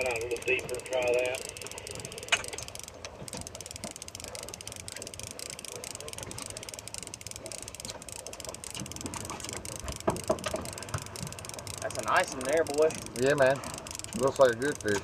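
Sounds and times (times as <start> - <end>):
boat engine and water rush: 0.0 - 15.0
fishing reel ticking: 0.0 - 15.0.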